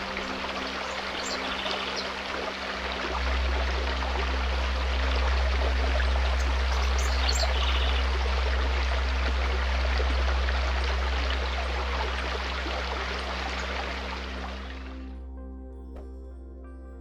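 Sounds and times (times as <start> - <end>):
stream rushing over rocks: 0.0 - 15.0
low musical drone: 0.0 - 17.0.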